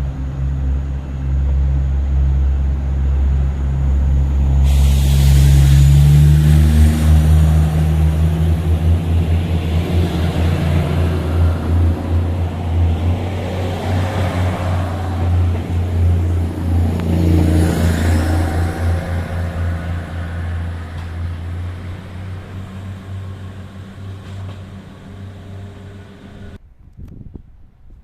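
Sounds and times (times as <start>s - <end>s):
train passing with rumble: 0.0s - 26.6s.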